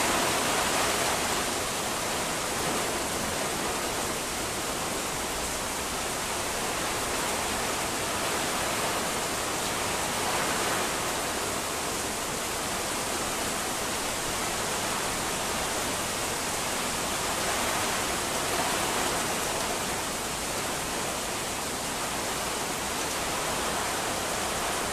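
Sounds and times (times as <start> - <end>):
heavy rain in strong wind: 0.0 - 24.9.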